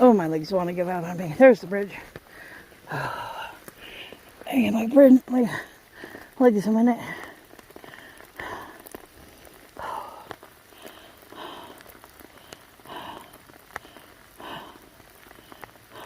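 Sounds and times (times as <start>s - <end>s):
rain falling on woods: 0.0s - 16.0s.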